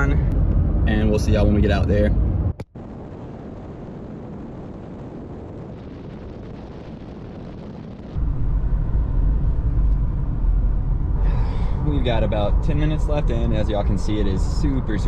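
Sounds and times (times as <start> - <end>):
low rumble of road noise: 0.0 - 15.0.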